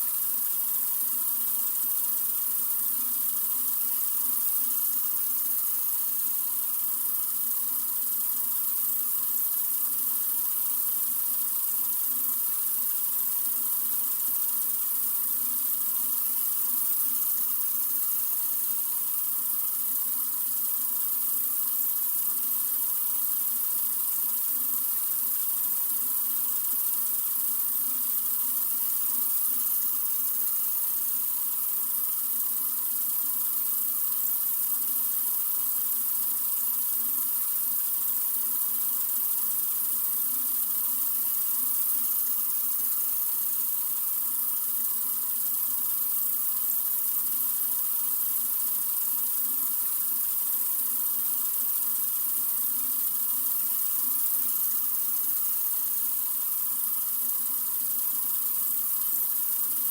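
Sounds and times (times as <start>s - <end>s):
sink faucet running: 0.0s - 59.9s.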